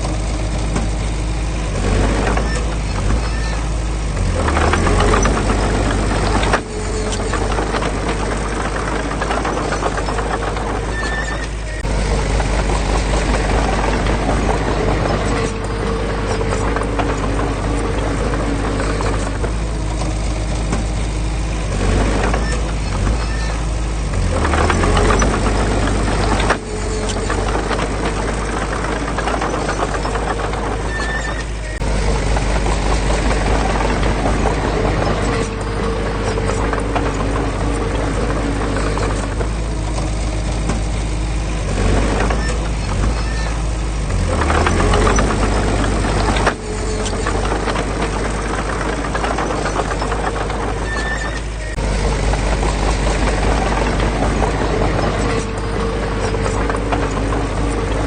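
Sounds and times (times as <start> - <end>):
heavy diesel machinery rumbling: 0.0 - 58.0
short metal knocks and clanks: 0.0 - 58.0.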